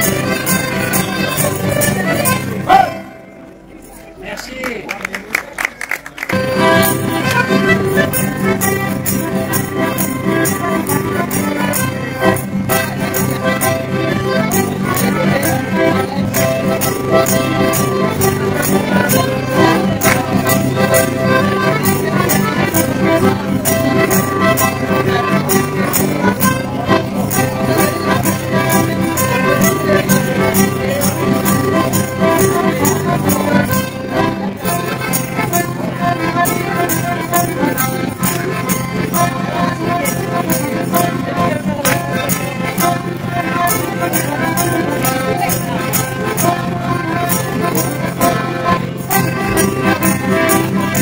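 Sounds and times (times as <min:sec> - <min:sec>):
folk dance music: 0:00.0 - 0:51.0.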